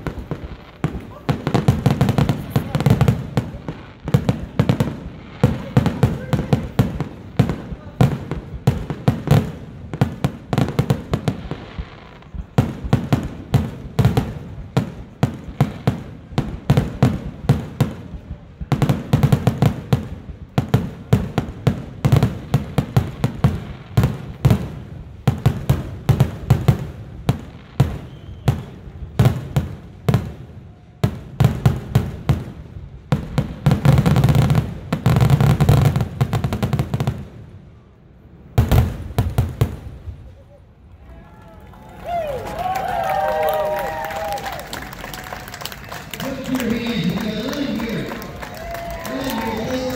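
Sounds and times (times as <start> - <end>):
fireworks bursts and bangs: 0.0 - 41.0, 42.0 - 49.9.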